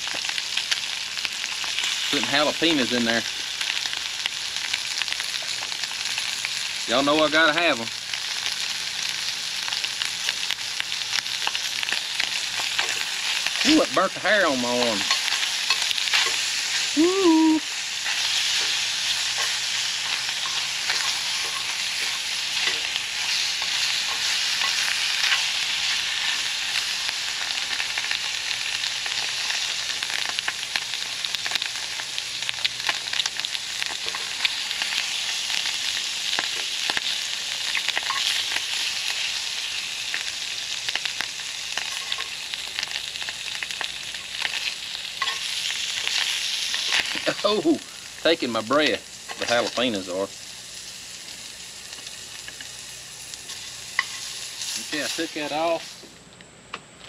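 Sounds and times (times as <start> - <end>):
meat sizzling in a skillet: 0.0 - 56.1.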